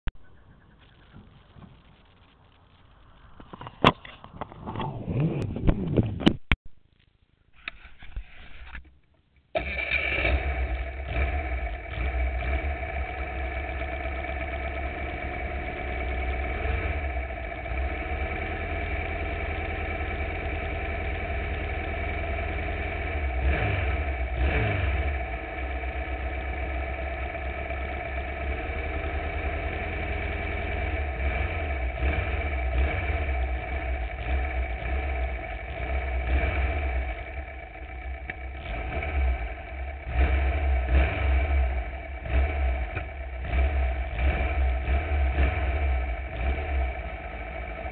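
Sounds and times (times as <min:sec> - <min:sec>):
engine starting and idling: 0:09.5 - 0:47.9.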